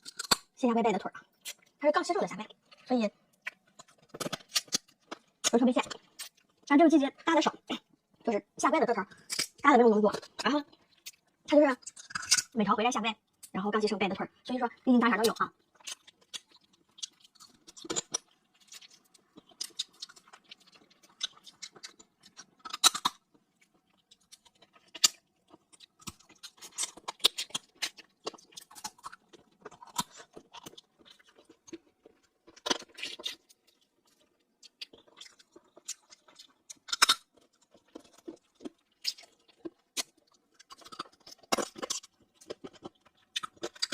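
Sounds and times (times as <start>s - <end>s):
chewing and crunching shellfish: 0.0s - 43.9s.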